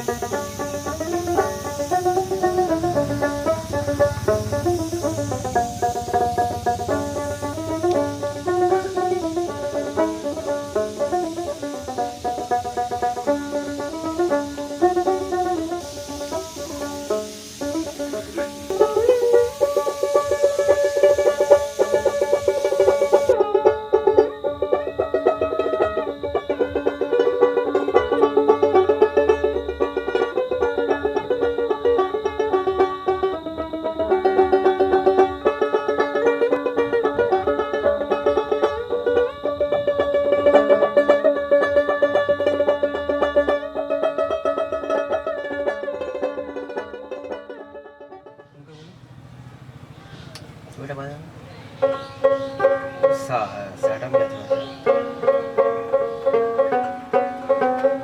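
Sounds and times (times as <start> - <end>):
plucked lute melody: 0.0 - 49.9, 51.4 - 58.0.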